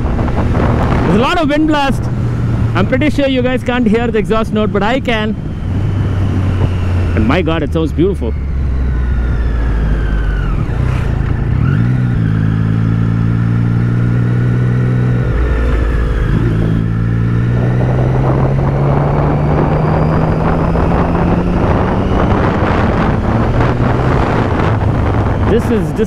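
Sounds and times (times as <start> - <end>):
motorcycle engine accelerating: 0.0 - 26.0
wind rush on microphone: 0.0 - 26.0.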